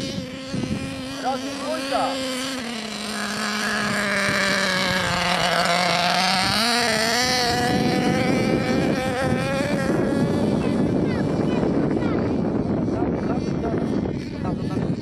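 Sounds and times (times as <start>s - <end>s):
model truck engine running: 0.0s - 12.8s.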